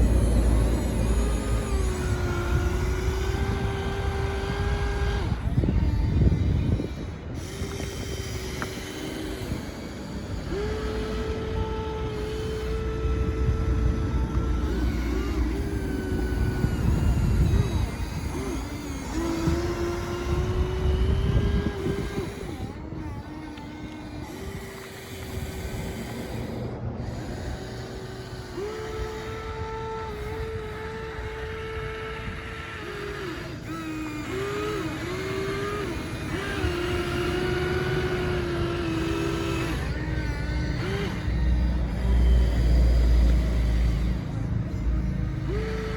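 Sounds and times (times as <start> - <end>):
small electric motors whining: 0.0 - 45.9.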